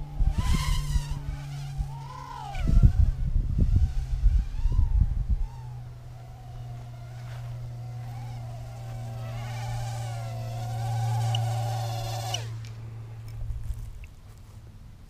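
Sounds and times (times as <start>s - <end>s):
drone motors whining: 0.0s - 13.8s
steady low hum: 0.0s - 15.0s.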